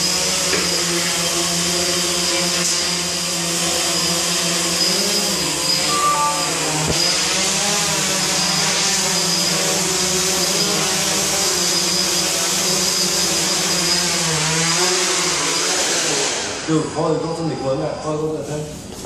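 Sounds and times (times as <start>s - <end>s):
quadcopter propellers whining: 0.0s - 18.3s.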